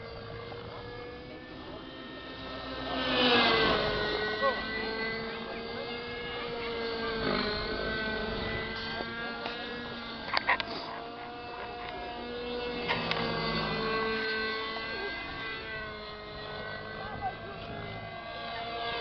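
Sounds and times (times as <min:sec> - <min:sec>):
model helicopter buzzing whine: 0:00.0 - 0:19.0.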